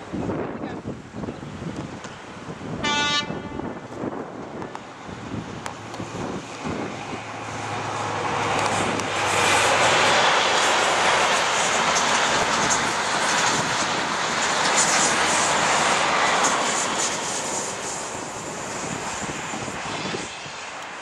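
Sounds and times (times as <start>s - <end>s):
diesel locomotive engine: 0.0s - 21.0s
wheels rushing on rail: 1.6s - 21.0s
train passing at speed: 2.0s - 21.0s.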